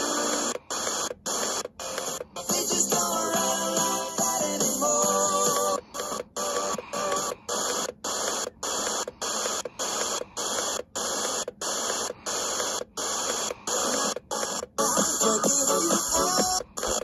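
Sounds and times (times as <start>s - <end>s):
radio static hiss: 0.0s - 17.0s
radio station audio: 0.0s - 17.0s.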